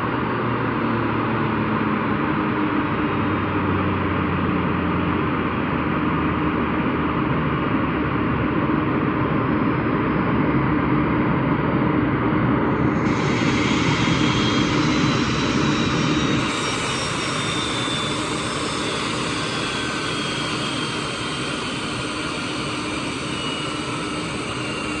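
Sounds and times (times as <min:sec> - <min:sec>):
jet engines roaring: 0:00.1 - 0:25.0.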